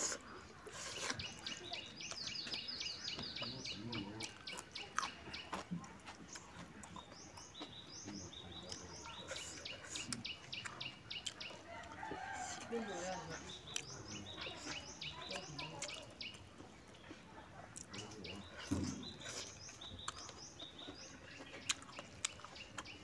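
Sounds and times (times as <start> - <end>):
person chewing food: 0.0 - 12.7, 13.4 - 23.0
songbird chirping: 0.0 - 23.0.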